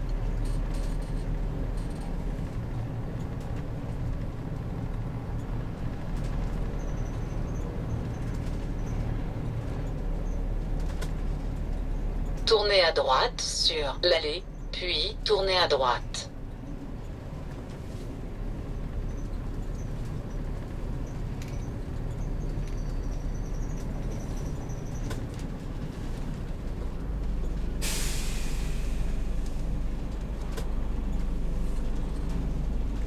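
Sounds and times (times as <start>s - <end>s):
engine rumbling while driving: 0.0s - 33.0s.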